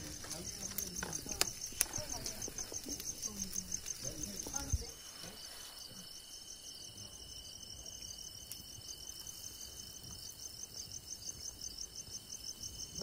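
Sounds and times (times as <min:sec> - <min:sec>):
crickets chirping: 0:00.0 - 0:13.0
high insect whine: 0:00.0 - 0:13.0.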